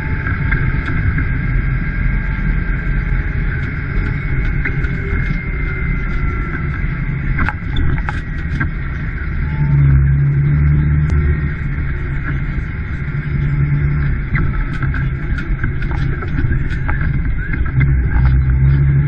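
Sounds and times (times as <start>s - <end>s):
high whine: 0.0s - 19.0s
tractor diesel engine droning: 0.0s - 19.0s.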